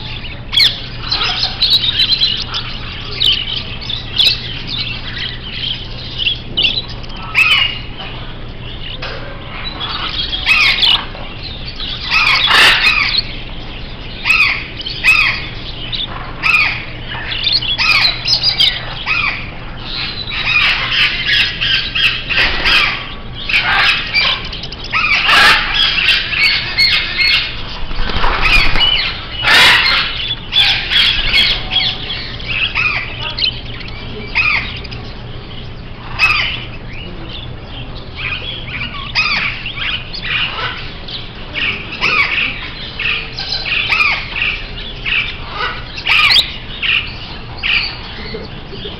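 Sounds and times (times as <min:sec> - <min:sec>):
caged birds squawking and chirping: 0:00.0 - 0:48.9.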